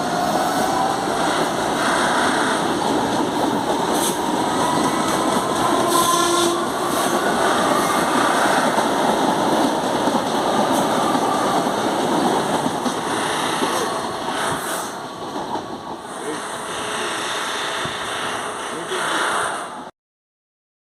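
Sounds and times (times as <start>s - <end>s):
wheels rumbling on rail: 0.0s - 19.9s.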